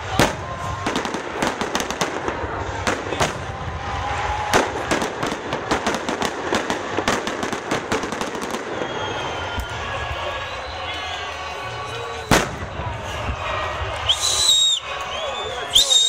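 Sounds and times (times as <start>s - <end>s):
fireworks bangs and pops: 0.0s - 11.5s, 12.1s - 15.1s.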